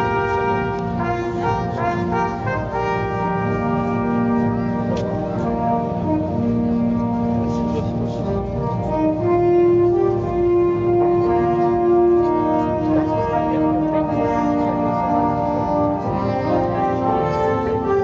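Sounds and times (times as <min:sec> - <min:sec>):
brass-led orchestral music: 0:00.0 - 0:18.0.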